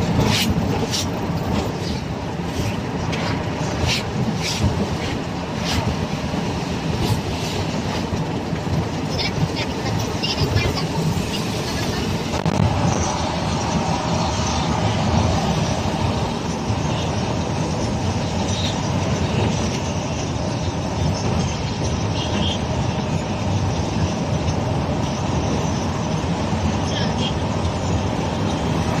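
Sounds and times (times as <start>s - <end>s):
vehicle engine and road noise: 0.0s - 29.0s.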